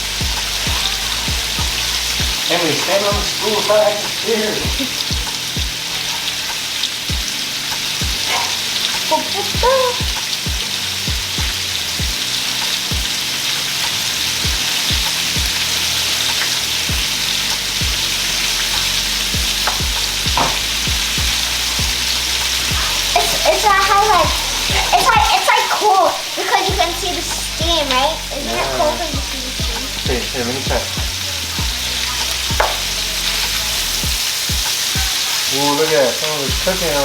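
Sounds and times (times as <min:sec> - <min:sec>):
food sizzling in a frying pan: 0:00.0 - 0:37.0.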